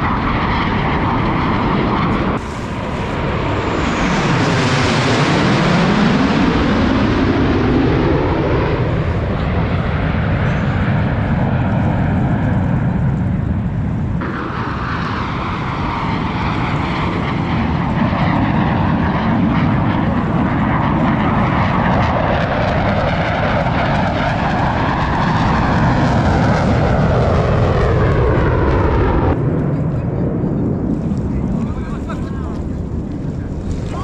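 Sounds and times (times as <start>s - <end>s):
jet aircraft roaring past: 0.0s - 34.0s.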